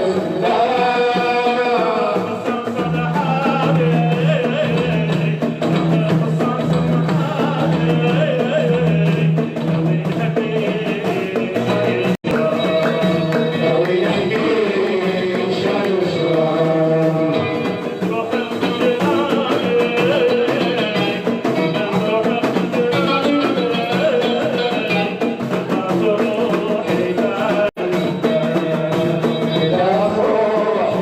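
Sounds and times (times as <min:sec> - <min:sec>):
drum: 0:00.0 - 0:31.0
sung melody with instruments: 0:00.0 - 0:31.0.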